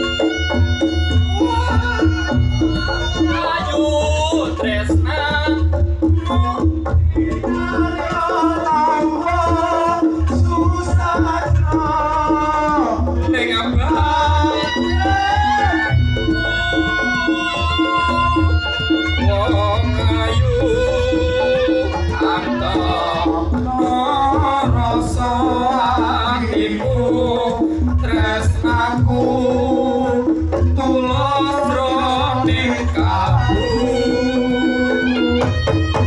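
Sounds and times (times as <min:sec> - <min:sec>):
drums beating: 0:00.0 - 0:36.0
gamelan music: 0:00.0 - 0:36.0.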